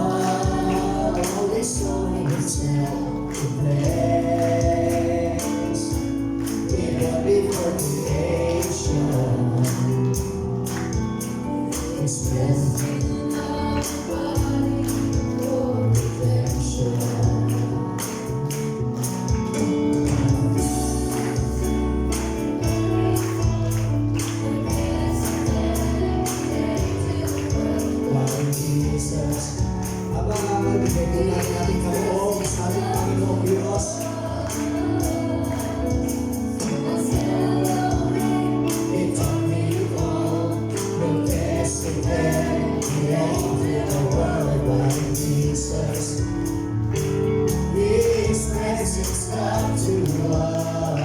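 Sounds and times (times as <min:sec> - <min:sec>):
congregation singing a hymn: 0:00.0 - 0:51.0
tambourine shaken and struck: 0:00.0 - 0:51.0.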